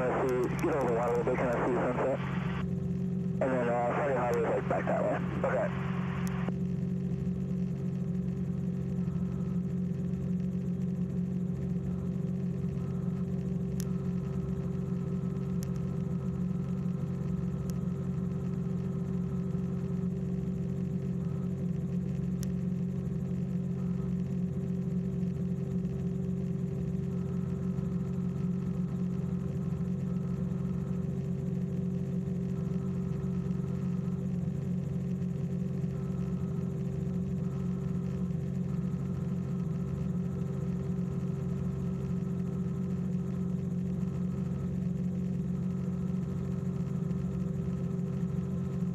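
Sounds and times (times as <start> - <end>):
light aircraft engine droning: 0.0 - 48.9.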